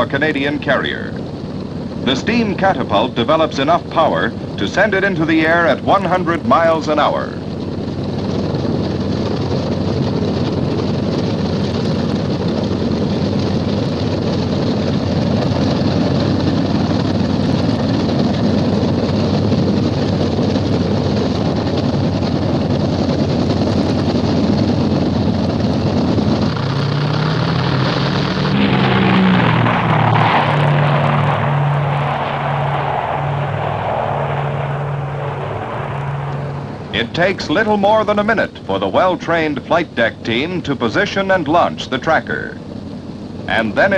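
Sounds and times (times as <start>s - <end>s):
aircraft piston engines at full power: 0.0s - 43.9s
low droning hum: 0.0s - 43.9s.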